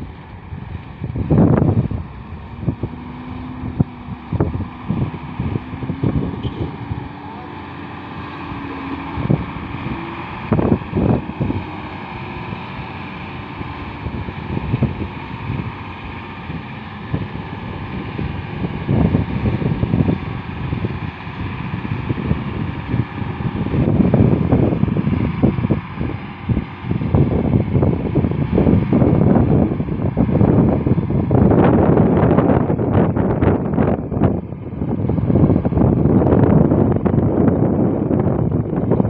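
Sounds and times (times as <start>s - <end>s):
truck diesel engine running: 0.0s - 39.0s
wind buffeting microphone: 0.0s - 39.0s.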